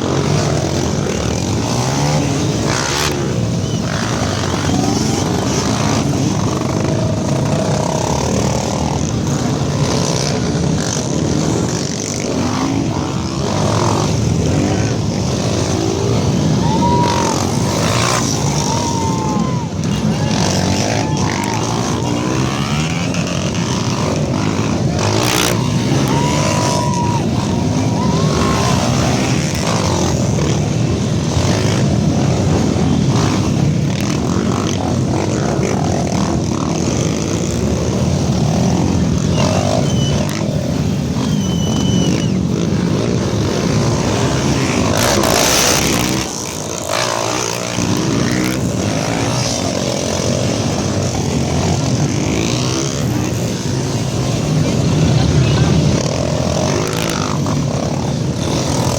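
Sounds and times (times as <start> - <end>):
loud rush: 0.0 - 58.9
motorcycle engines revving: 0.0 - 58.9.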